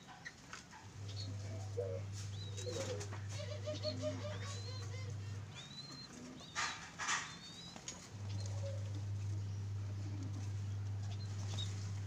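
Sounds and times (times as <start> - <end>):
wings fluttering: 0.4 - 12.0
steady low hum: 0.7 - 12.0.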